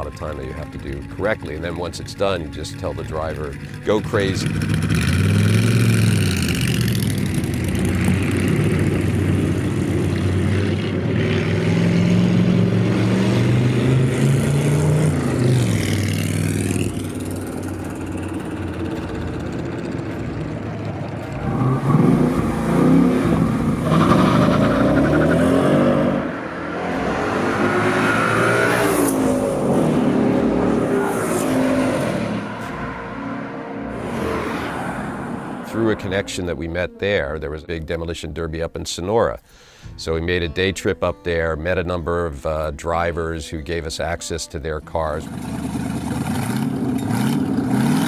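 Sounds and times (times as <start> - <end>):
car engine revving and accelerating: 0.0 - 36.3, 45.2 - 48.0.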